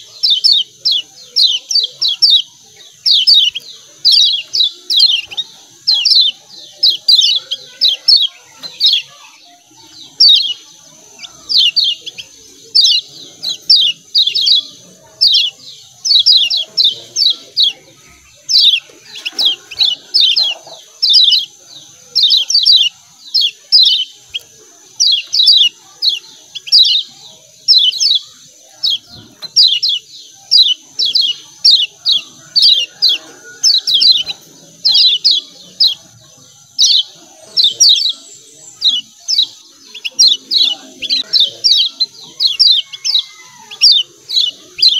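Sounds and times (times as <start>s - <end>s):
bird chirping calls: 0.0s - 44.9s.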